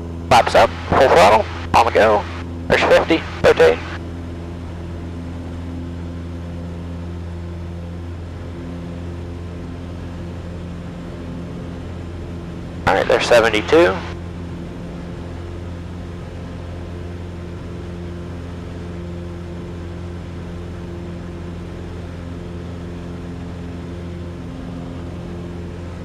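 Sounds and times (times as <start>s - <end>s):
small plane engine and propeller drone: 0.0s - 26.0s.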